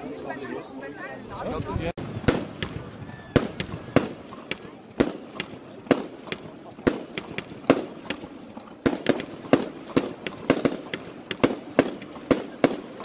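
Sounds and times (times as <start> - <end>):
fireworks bangs: 2.0 - 13.0.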